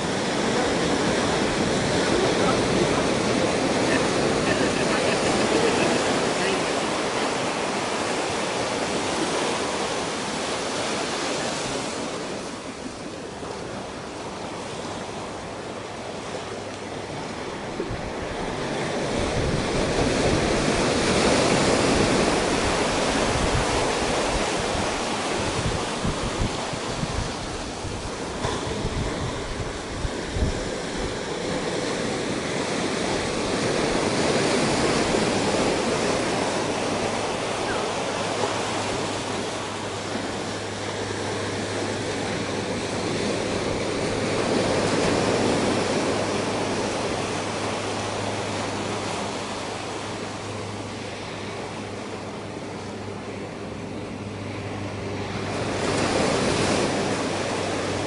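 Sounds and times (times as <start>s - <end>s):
wind buffeting microphone: 0.0s - 50.9s
waves breaking on rocky beach: 0.0s - 58.0s.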